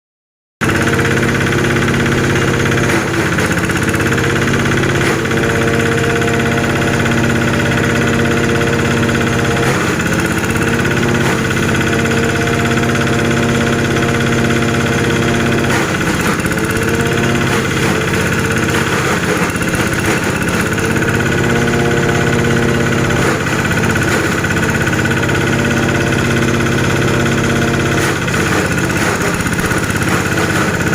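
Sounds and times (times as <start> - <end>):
shredding machine engine running: 0.6 - 30.9.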